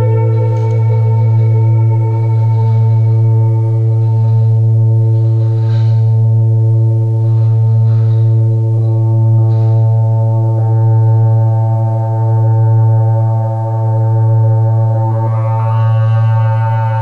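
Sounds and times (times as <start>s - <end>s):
synthesizer ambient pad: 0.0s - 17.0s.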